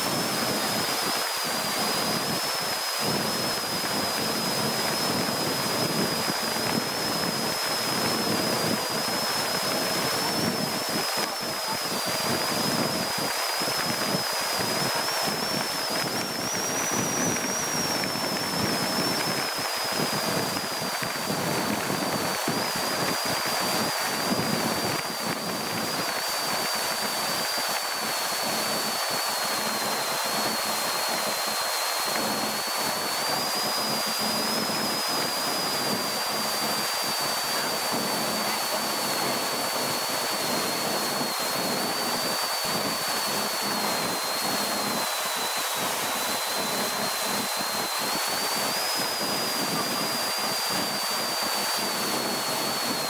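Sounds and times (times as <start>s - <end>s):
thin high whine: 0.0s - 53.0s.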